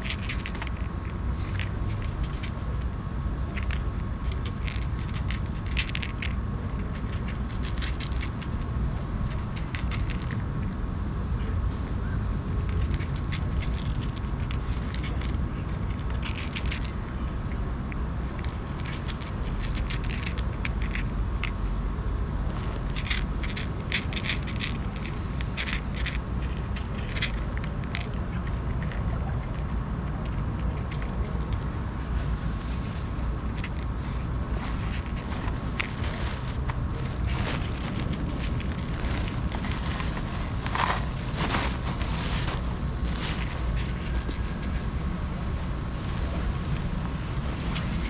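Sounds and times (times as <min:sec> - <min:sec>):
cat crunching dry kibble: 0:00.0 - 0:10.8, 0:12.6 - 0:21.6, 0:22.4 - 0:45.1, 0:46.0 - 0:48.0
low rumble of street traffic: 0:00.0 - 0:48.0.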